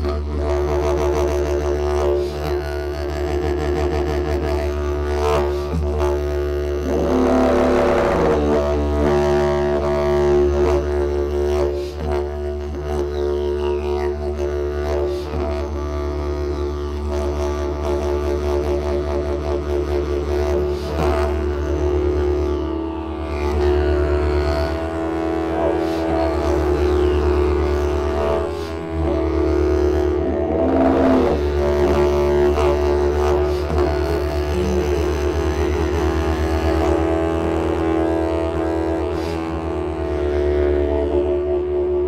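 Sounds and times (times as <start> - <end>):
didgeridoo drone: 0.0 - 42.0.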